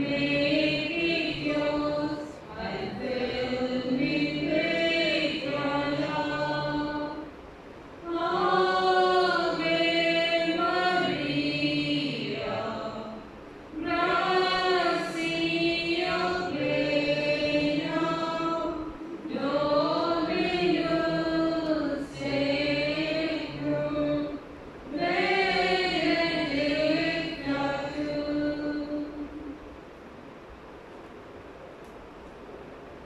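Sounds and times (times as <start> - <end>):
group singing a hymn: 0.0 - 7.4, 8.0 - 29.7.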